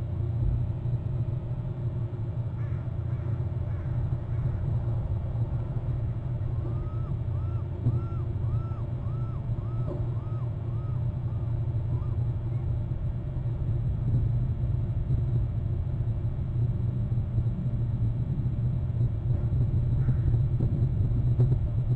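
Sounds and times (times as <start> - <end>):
steady low rumble: 0.0 - 21.9.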